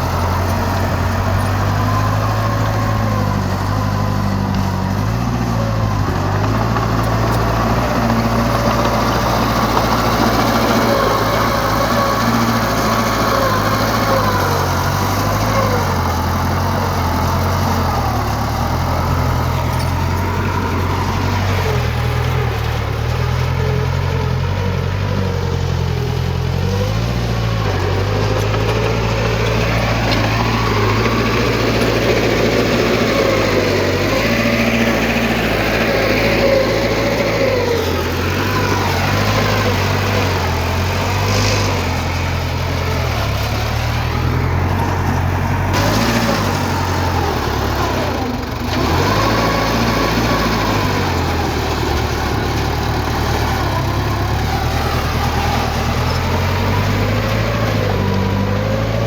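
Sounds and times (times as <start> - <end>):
diesel earthmoving machinery running: 0.0 - 59.0.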